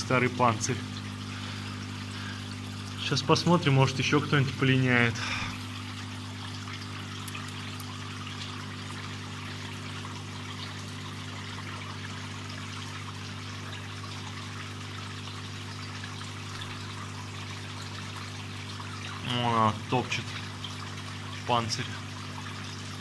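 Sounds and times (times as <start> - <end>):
low equipment hum: 0.0 - 23.0
water trickling in tank: 0.0 - 23.0.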